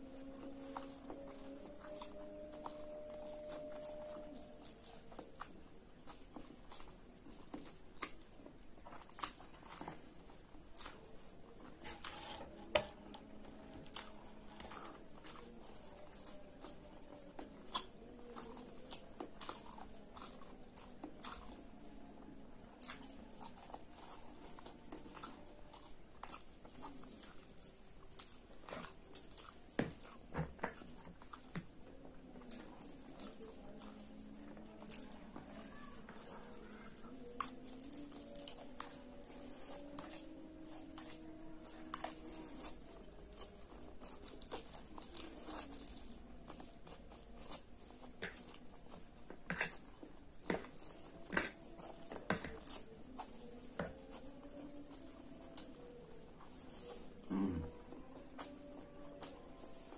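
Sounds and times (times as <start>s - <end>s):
chewing noodles: 0.0s - 59.9s.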